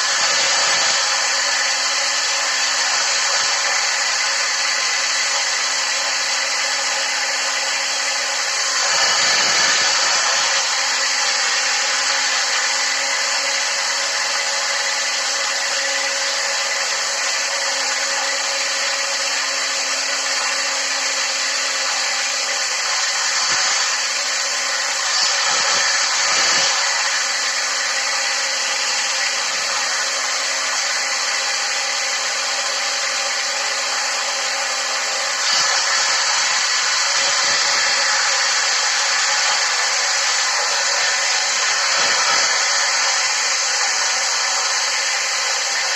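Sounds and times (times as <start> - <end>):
electric drill with hole saw: 0.0 - 45.9.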